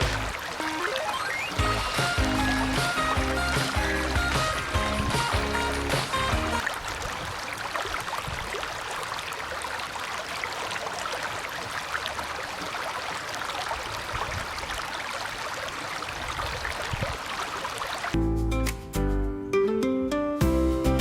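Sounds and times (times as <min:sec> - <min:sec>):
running water with splashes: 0:00.0 - 0:18.2.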